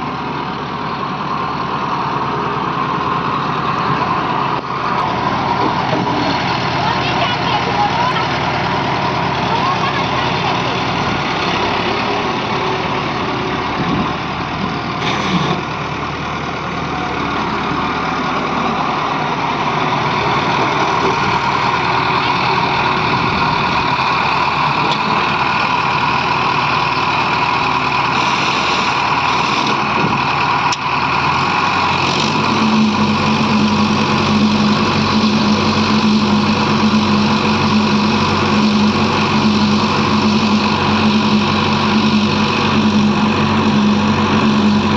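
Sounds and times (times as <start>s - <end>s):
diesel engines running: 0.0s - 44.9s
steady engine note: 0.0s - 44.9s.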